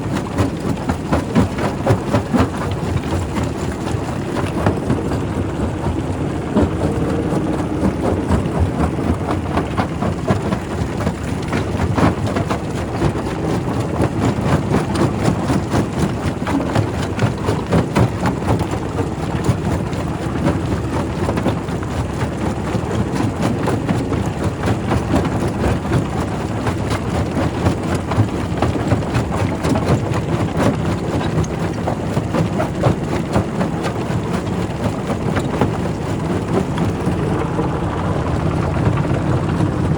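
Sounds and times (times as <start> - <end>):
rock crusher rumbling: 0.0 - 39.9.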